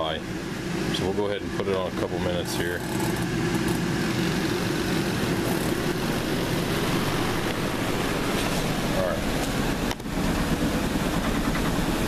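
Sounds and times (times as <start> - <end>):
spin-dryer motor humming: 0.0 - 12.0.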